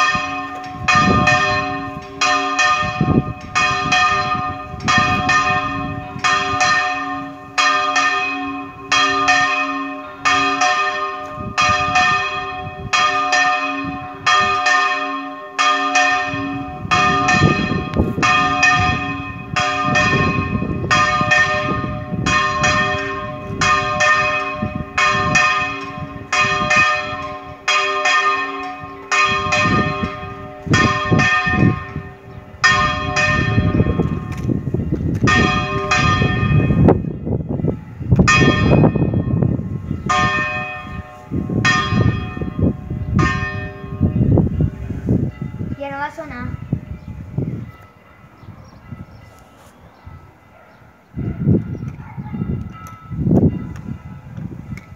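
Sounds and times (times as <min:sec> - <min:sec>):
church bell ringing: 0:00.0 - 0:54.9.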